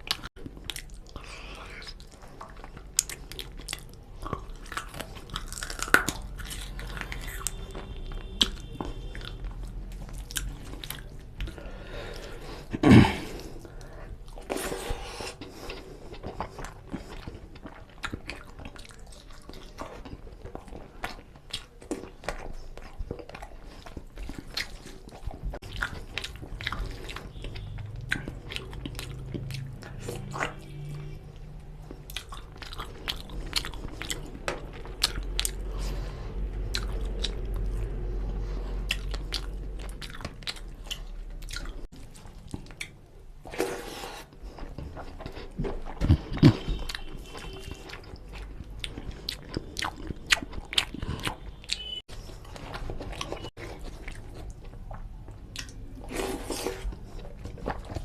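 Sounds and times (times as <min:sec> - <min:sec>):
person chewing and lip-smacking: 0:00.0 - 0:58.0.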